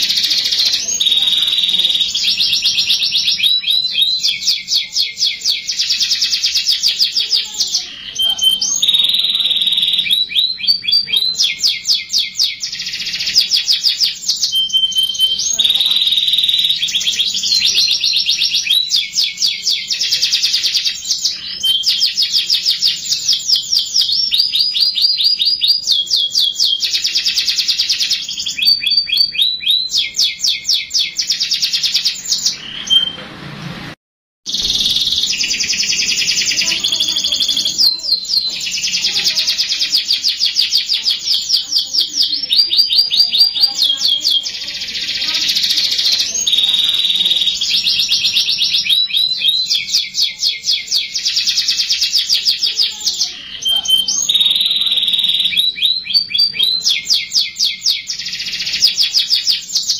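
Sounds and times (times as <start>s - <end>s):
canary singing trills: 0.0s - 33.2s, 34.5s - 59.9s.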